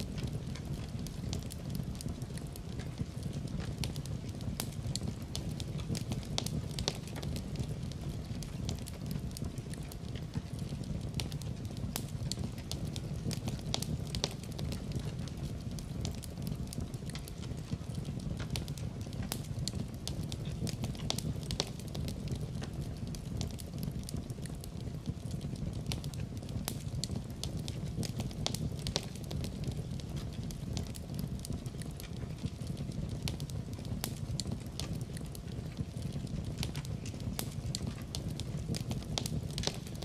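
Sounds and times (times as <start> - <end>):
low rumble of burning: 0.0 - 40.0
wood fire crackling and popping: 0.0 - 40.0.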